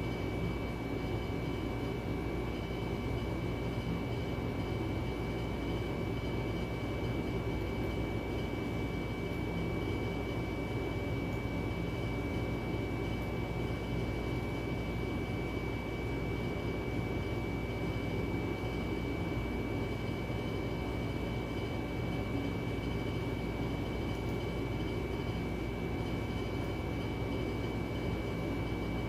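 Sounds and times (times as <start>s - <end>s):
constant high-pitched whine: 0.0s - 29.0s.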